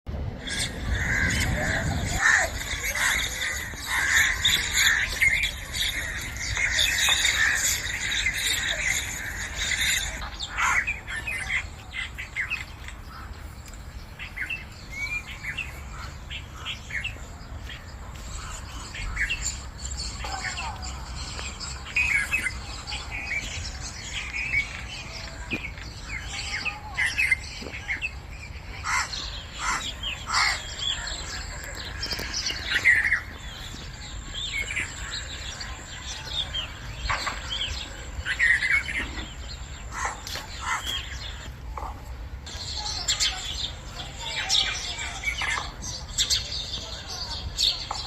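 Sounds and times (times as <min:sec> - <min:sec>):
songbirds chirping: 0:00.1 - 0:48.0.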